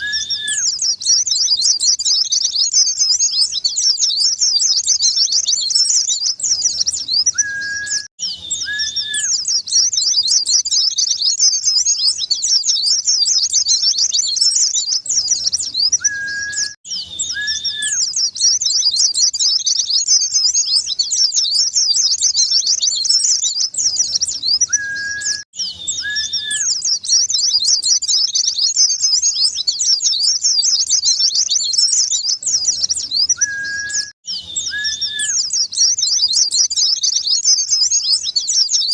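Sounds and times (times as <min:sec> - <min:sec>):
birds high-pitched twittering: 0:00.0 - 0:38.9.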